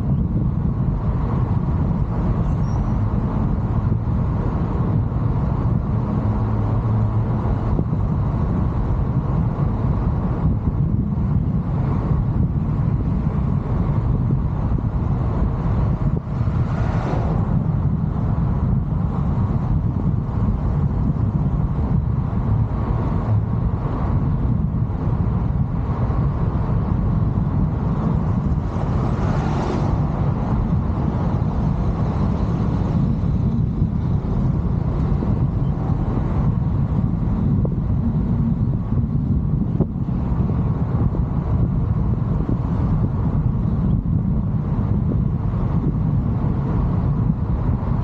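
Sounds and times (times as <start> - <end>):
car road and wind noise: 0.0 - 48.0.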